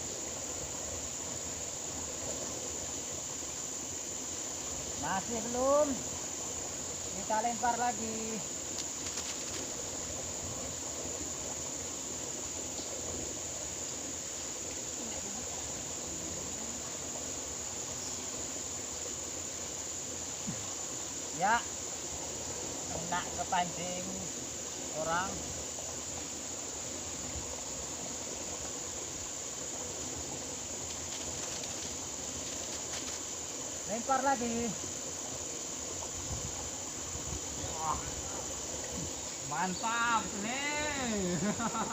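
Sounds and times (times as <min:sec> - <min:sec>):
flowing water hiss: 0:00.0 - 0:41.9
high-pitched insect drone: 0:00.0 - 0:41.9.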